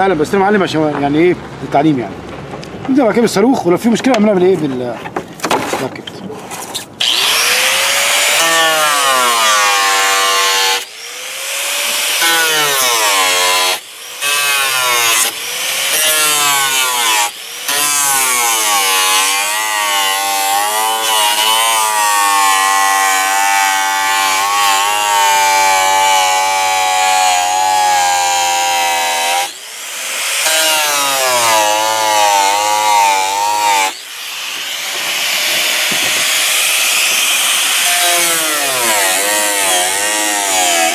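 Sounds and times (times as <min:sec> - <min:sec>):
angle grinder cutting plastic: 0:06.5 - 0:40.9.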